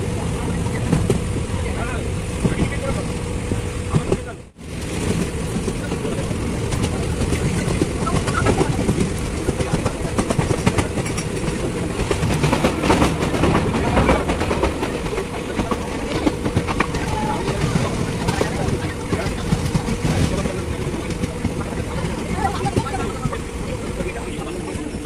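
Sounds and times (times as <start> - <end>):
train wheels clattering on track: 0.6 - 25.0.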